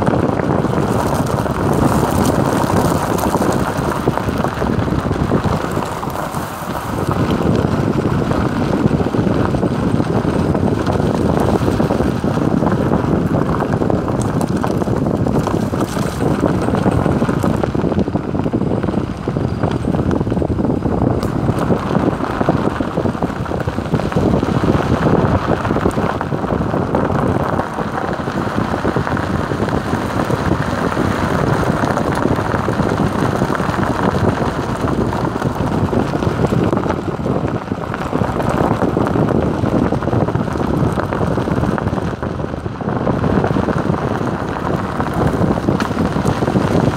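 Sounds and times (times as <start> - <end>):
car engine rumble: 0.0 - 46.9
tyres on dirt track: 0.0 - 46.9
wind buffeting microphone: 0.0 - 46.9.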